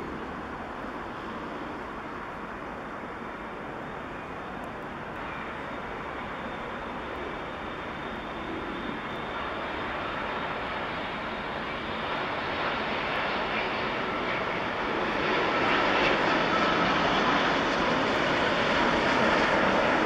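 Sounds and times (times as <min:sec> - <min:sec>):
airliner jet engine rush: 0:00.0 - 0:20.0.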